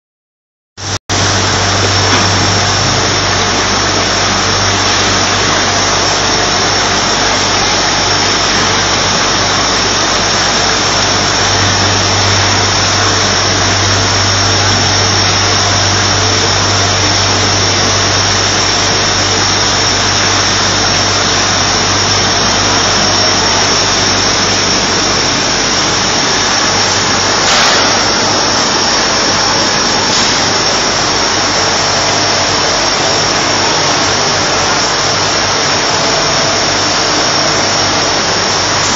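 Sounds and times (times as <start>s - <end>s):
machine whine over low hum: 0.8s - 38.9s.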